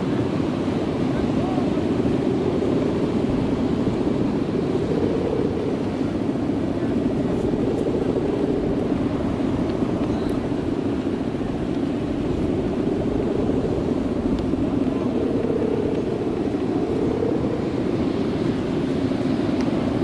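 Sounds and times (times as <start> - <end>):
kite hummer droning in wind: 0.0 - 20.0.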